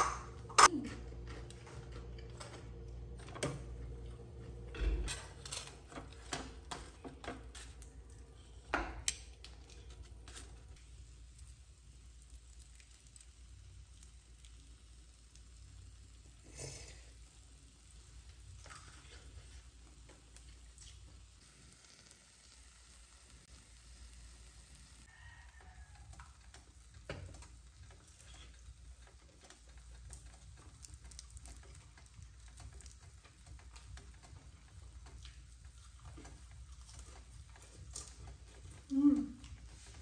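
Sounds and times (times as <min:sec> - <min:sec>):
faint sizzling in a pan: 0:03.4 - 0:40.0.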